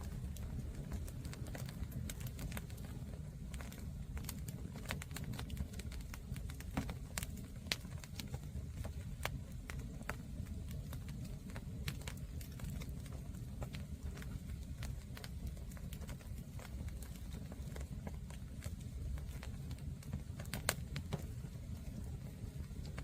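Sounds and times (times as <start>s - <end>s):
bonfire crackling and popping: 0.0s - 23.0s
low steady rumble: 0.0s - 23.0s.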